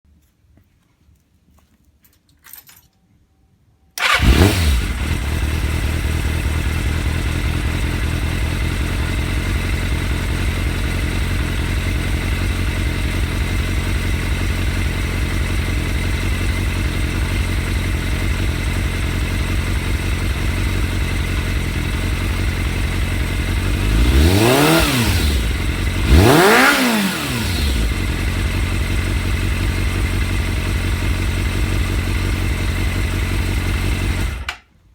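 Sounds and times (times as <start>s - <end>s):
motorcycle engine idling: 4.0s - 34.6s
motorcycle engine revving: 4.0s - 34.6s.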